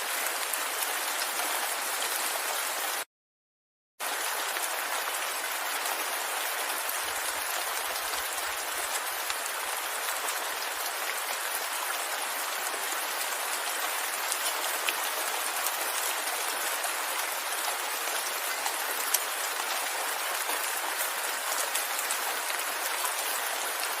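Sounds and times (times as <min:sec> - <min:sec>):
steady rain hiss: 0:04.0 - 0:24.0.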